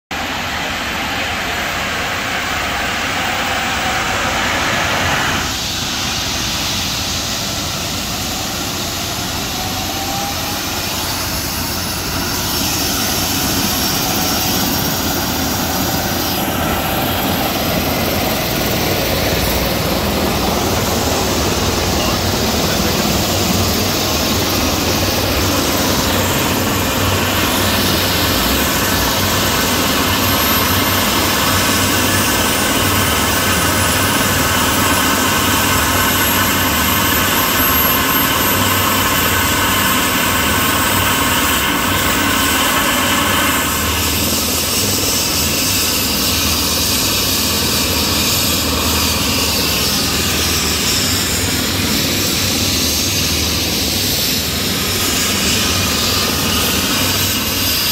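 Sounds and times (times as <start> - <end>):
helicopter rotor noise: 0.1 - 57.9
helicopter turbine whine: 0.1 - 57.9.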